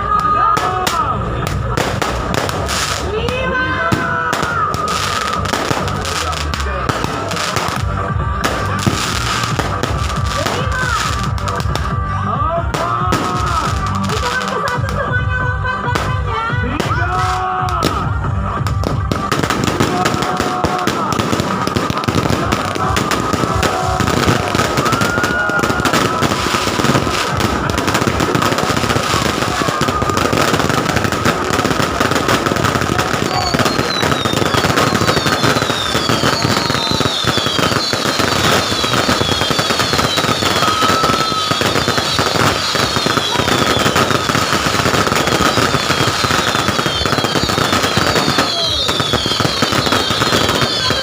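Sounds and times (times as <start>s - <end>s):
firecrackers crackling: 0.0s - 51.0s.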